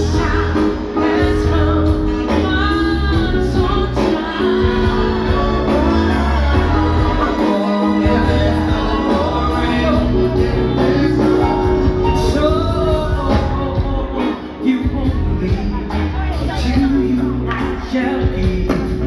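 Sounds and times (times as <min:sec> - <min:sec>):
live band playing: 0:00.0 - 0:19.0
steady bass: 0:00.0 - 0:19.0
woman singing: 0:00.0 - 0:19.0.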